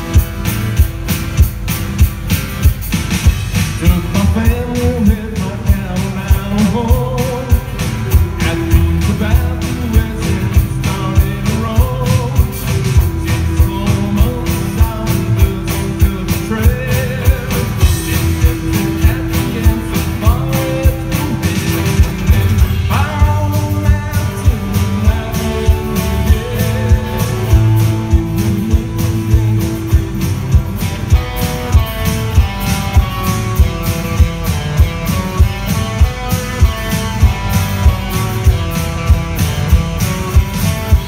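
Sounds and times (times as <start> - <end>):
drum kit beat: 0.0 - 41.0
guitars: 0.0 - 41.0
live rock band playing: 0.0 - 41.0.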